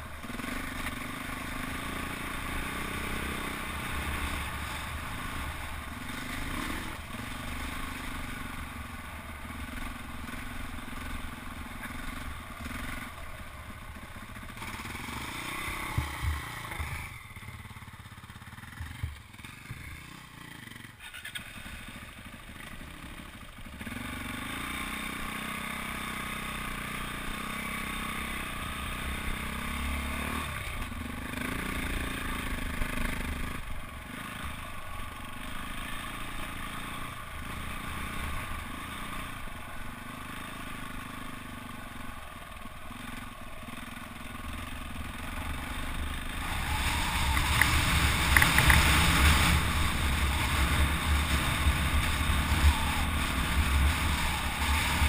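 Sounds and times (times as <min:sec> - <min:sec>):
dirt bike engine: 0:00.0 - 0:55.0.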